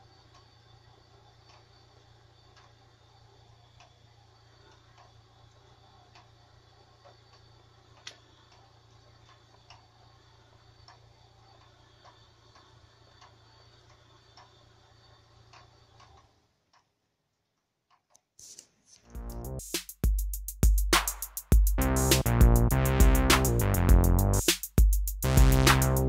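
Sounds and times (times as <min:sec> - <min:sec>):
faint regular ticking: 0:00.0 - 0:18.4, 0:19.1 - 0:26.0.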